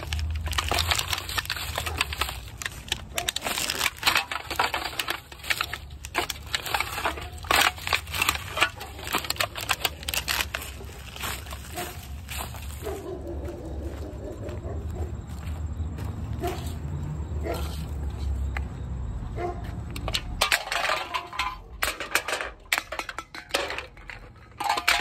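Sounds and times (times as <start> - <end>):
litter crinkling and crackling: 0.0 - 18.6, 19.4 - 25.0.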